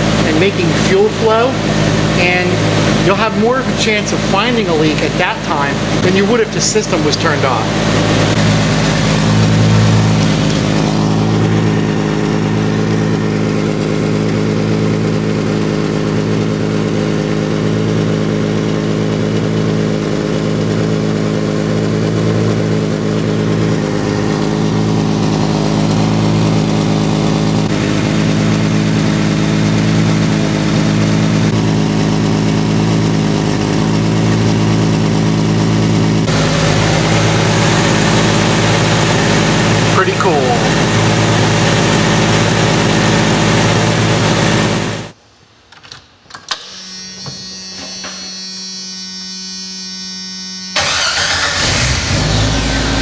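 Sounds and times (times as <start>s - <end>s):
car engine idling: 0.0s - 45.2s, 50.2s - 53.0s.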